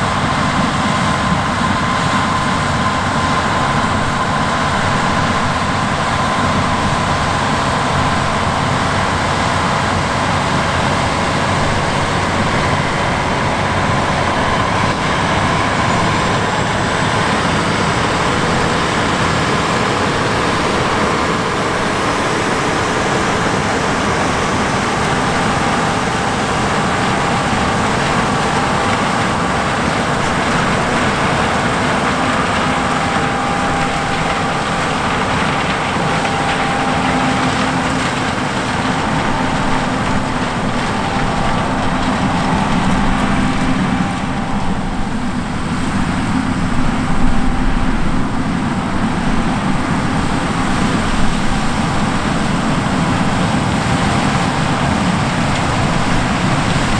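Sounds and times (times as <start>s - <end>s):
combine harvester drone: 0.0s - 56.9s
faint machine whines: 0.0s - 56.9s.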